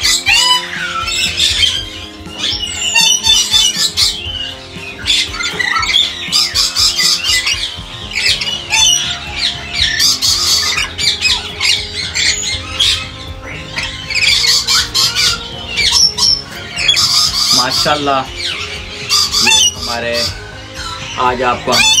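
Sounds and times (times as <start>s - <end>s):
background music: 0.0s - 22.0s
lorikeets squawking: 0.0s - 22.0s.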